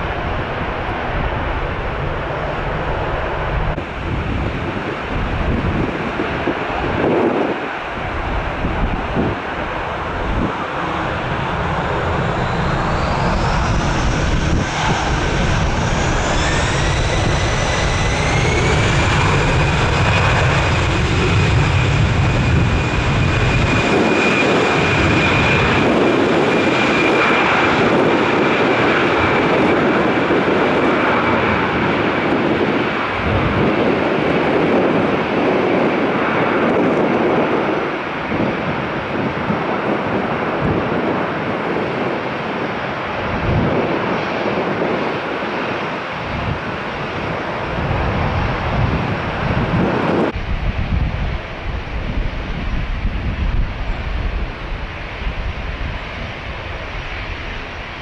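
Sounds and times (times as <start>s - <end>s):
wind buffeting microphone: 0.0s - 58.0s
jet engines spooling up: 2.2s - 42.2s, 43.2s - 55.2s.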